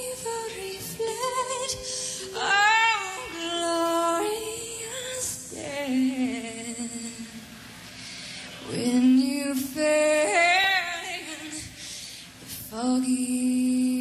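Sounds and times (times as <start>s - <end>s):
woman singing a ballad: 0.0s - 14.0s.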